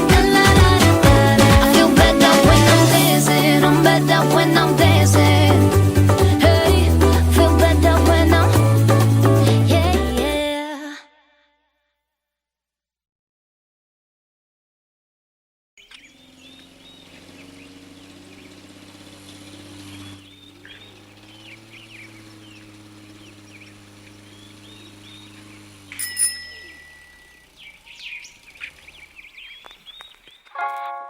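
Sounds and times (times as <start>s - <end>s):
birds chirping: 0.0s - 9.8s, 15.8s - 31.0s.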